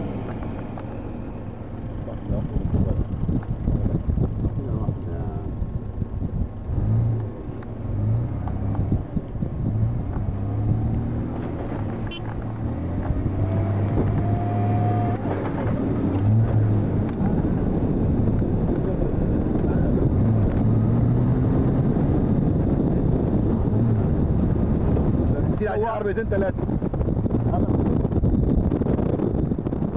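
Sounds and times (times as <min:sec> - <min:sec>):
rising engine whine: 0:00.0 - 0:25.4
vehicle engine revving: 0:00.0 - 0:29.7.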